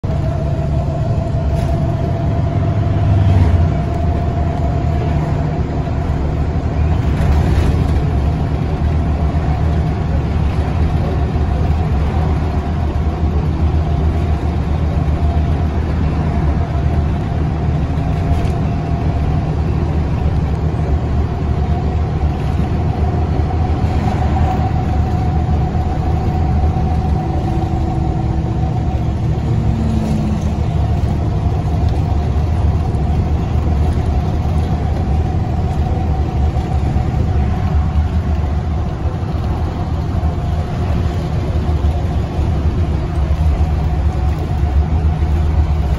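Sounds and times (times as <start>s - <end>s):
car road noise from inside: 0.0s - 45.9s.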